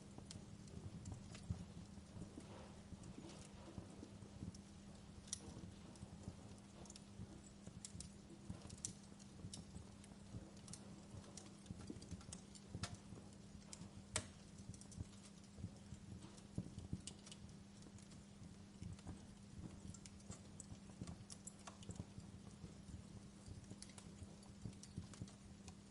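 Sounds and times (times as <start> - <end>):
steady low hum: 0.0 - 25.9
wood fire crackling: 0.0 - 25.9.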